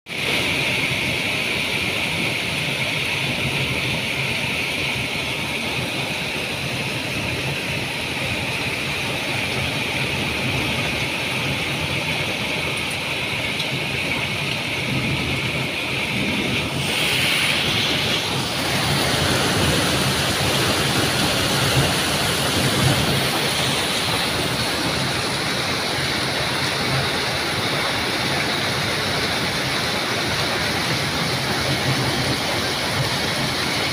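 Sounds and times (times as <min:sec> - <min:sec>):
heavy rain with hail: 0:00.1 - 0:33.9
storm water running: 0:00.1 - 0:33.9.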